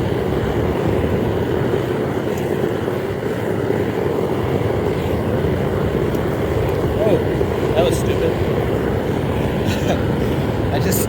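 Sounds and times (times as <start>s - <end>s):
propane burner roaring: 0.0s - 11.0s.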